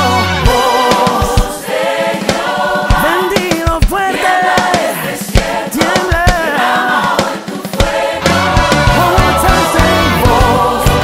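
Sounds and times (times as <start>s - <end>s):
band with drums and brass: 0.0s - 11.0s
choir singing gospel: 0.0s - 11.0s.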